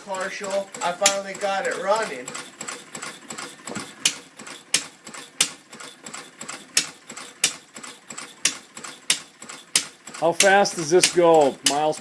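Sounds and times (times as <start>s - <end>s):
single-cylinder engine putter with pops: 0.4s - 11.9s.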